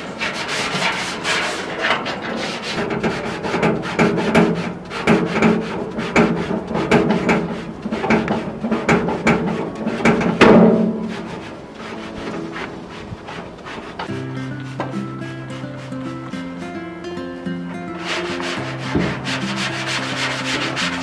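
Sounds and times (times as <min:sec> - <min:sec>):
sponge scrubbing metal grill grate: 0:00.0 - 0:16.6, 0:17.5 - 0:21.0.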